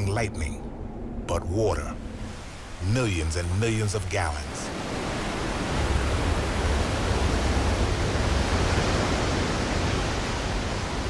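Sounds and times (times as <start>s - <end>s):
low rumble of water: 0.0s - 11.0s.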